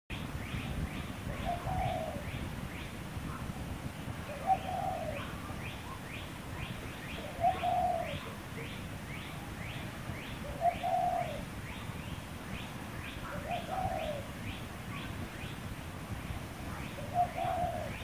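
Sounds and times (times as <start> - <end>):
low cooing bird call: 0.4 - 3.4, 4.2 - 15.6, 16.7 - 18.0.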